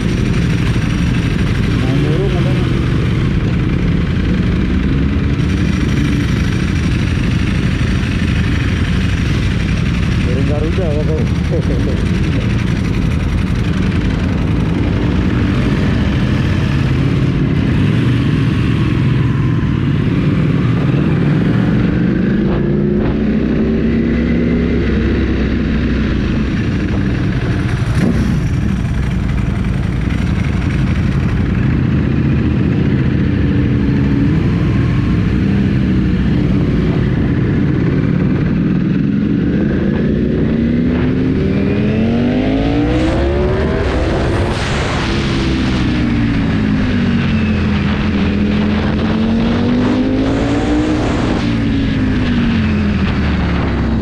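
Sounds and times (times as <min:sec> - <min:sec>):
motorcycle engine revving: 0:00.0 - 0:54.0
wind rumble: 0:00.0 - 0:54.0.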